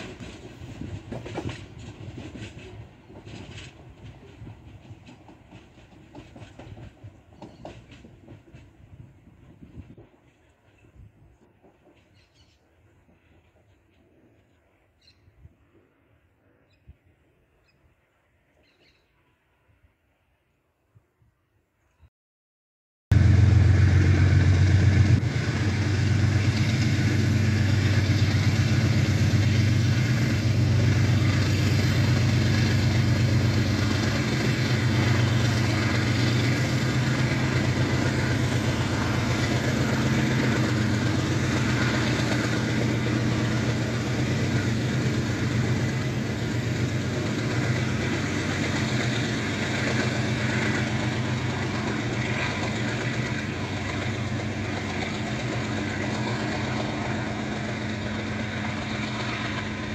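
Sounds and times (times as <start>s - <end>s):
train wagons rumbling: 0.0s - 14.8s, 23.1s - 59.9s
diesel locomotive engine drone: 0.0s - 19.9s, 23.1s - 59.9s.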